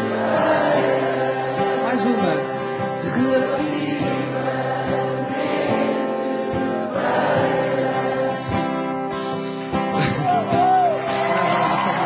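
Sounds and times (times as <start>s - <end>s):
choir-like backing vocals: 0.0s - 10.2s.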